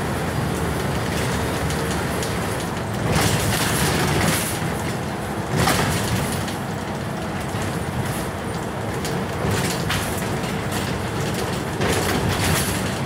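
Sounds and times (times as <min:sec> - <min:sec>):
bus diesel engine running: 0:00.0 - 0:13.0
road and body noise: 0:00.0 - 0:13.0.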